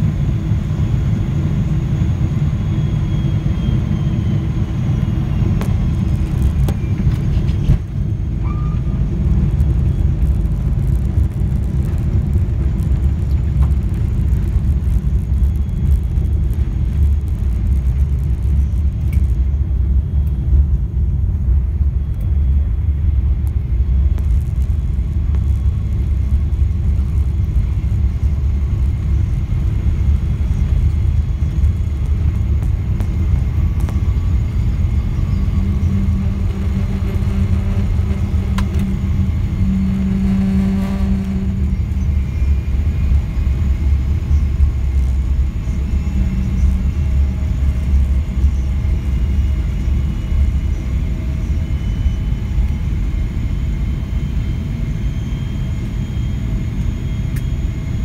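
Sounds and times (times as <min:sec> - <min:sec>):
airliner cabin rumble: 0:00.0 - 0:58.0
low hum: 0:00.0 - 0:58.0.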